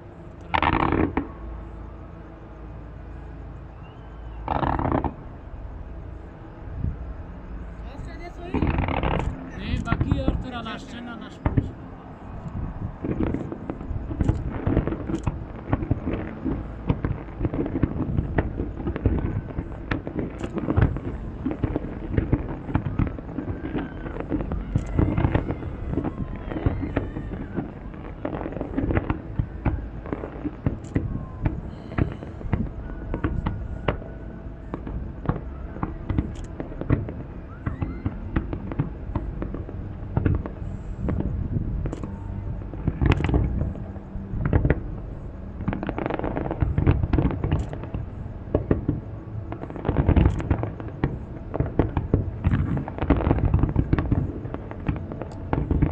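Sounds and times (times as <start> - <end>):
fireworks bangs and crackles: 4.5 - 5.2, 7.9 - 55.9.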